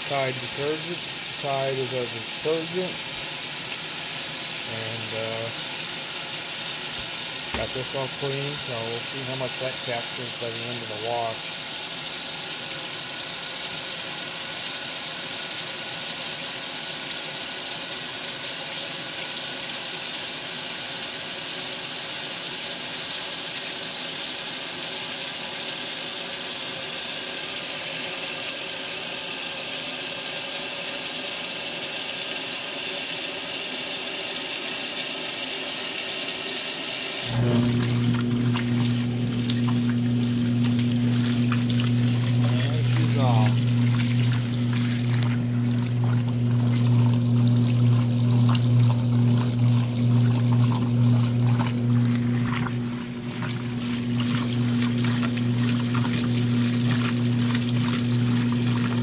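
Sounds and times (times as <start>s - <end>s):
washing machine motor humming: 0.0s - 21.1s, 24.9s - 59.0s
water rushing into tub: 0.0s - 59.0s.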